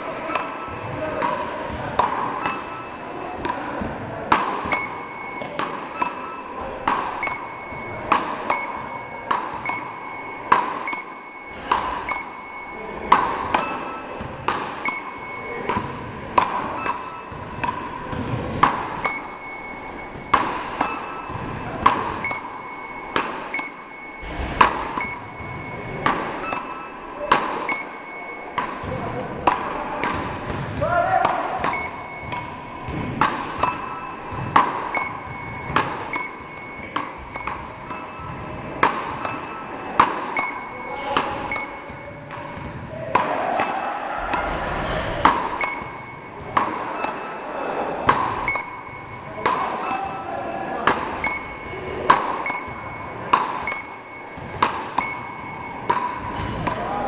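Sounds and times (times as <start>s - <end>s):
short electronic beep: 0.0s - 0.9s, 2.3s - 3.2s, 4.6s - 18.1s, 18.7s - 28.9s, 31.6s - 42.3s, 45.5s - 47.5s, 48.3s - 50.3s, 51.2s - 56.9s.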